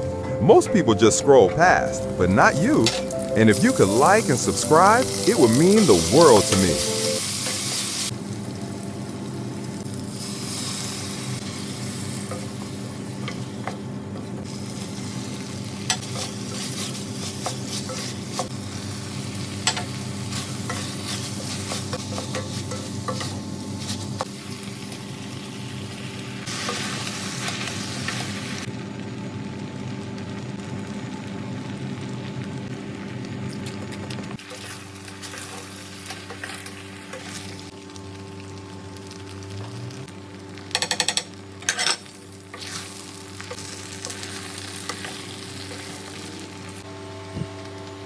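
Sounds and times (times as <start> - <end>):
food sizzling in a hot pan: 2.8 - 46.9.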